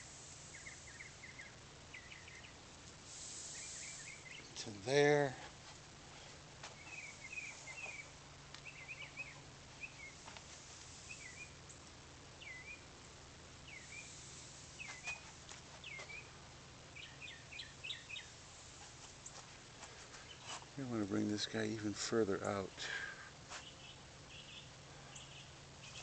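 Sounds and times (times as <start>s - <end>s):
birds chirping: 0.0s - 26.0s
low steady hum: 0.0s - 26.0s.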